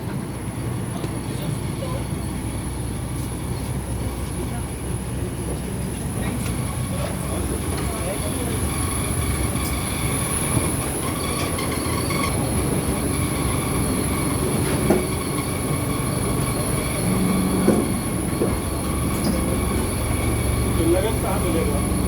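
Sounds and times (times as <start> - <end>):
vehicle rumbling in motion: 0.0 - 22.0.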